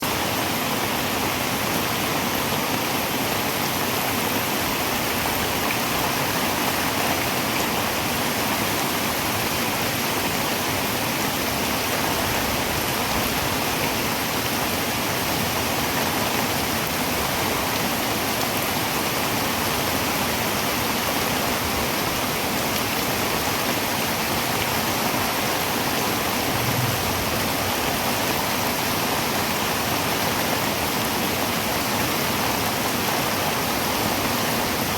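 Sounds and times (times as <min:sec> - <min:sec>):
heavy rain on a tin roof: 0:00.0 - 0:34.9.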